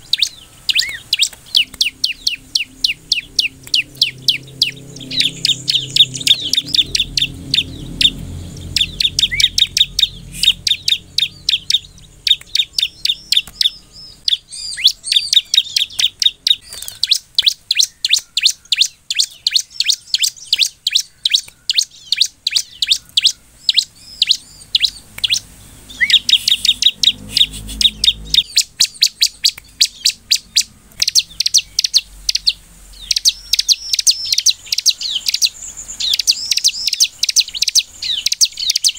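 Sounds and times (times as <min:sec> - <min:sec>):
bird singing sharp high chirps: 0:00.0 - 0:38.9.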